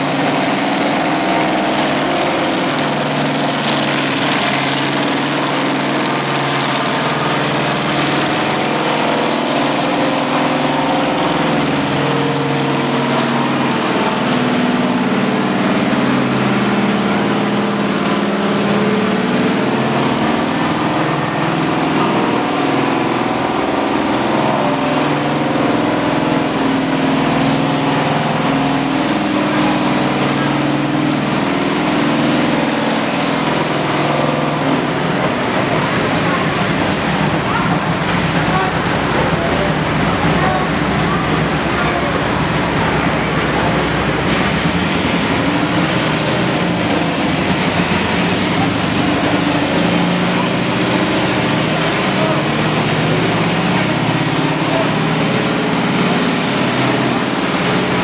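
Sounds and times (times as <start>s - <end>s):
military vehicle engines: 0.0s - 58.0s
motorcycle passing close: 0.0s - 58.0s.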